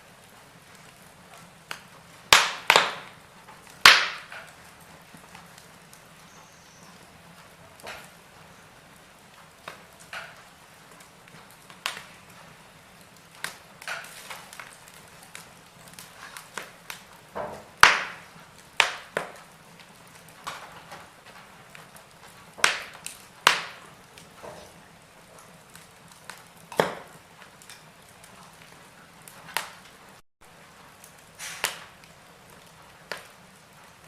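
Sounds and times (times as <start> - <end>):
faint fire hiss: 0.0 - 34.0
wood fire crackling and popping: 0.0 - 34.0.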